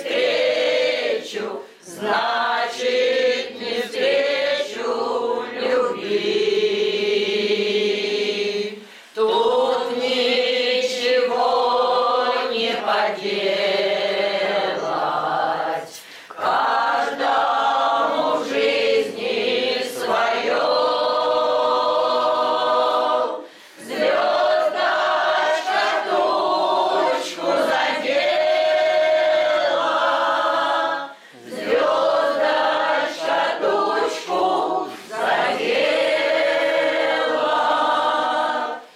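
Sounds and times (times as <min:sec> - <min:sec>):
mixed choir singing: 0:00.0 - 0:38.9.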